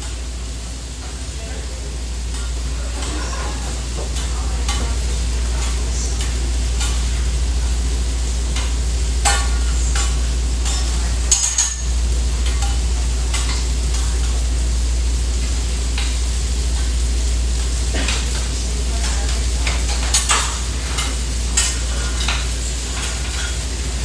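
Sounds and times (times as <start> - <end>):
food sizzling on griddle: 0.0 - 24.0
steady low hum: 0.0 - 24.0
cooking utensils clinking and scraping: 1.0 - 14.7, 15.4 - 24.0.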